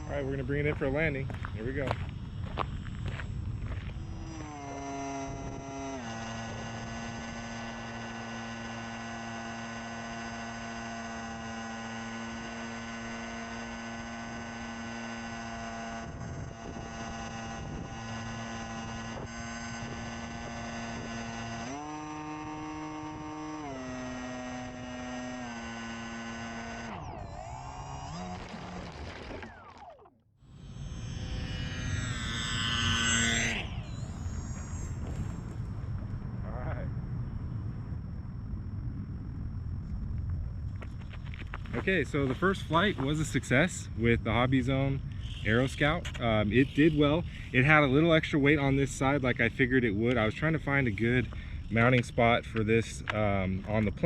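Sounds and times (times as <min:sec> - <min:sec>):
electric motor and propeller whining: 0:00.0 - 0:54.0.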